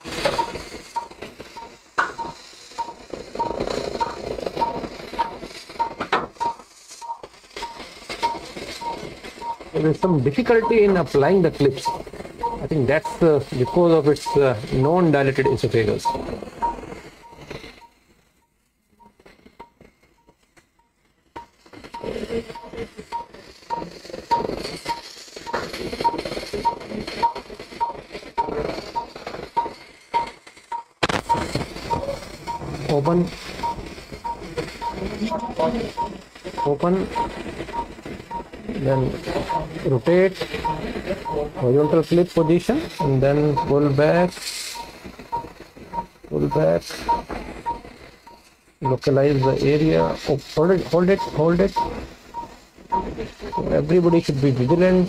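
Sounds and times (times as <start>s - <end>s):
operating room noise: 0.0s - 17.9s, 21.4s - 55.0s
patient monitor beeping: 0.1s - 18.0s, 21.4s - 55.0s.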